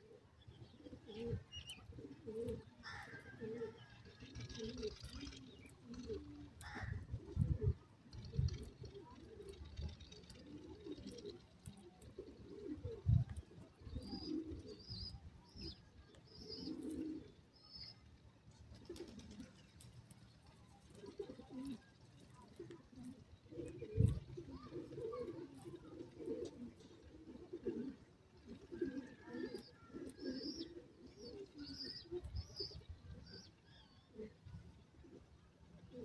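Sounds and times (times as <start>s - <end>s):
birds giving soft low calls: 0.0s - 36.0s.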